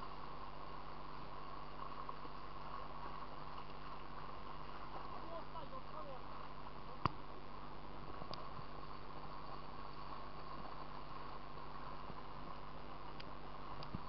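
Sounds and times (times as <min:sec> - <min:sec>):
river water rushing: 0:00.0 - 0:13.6.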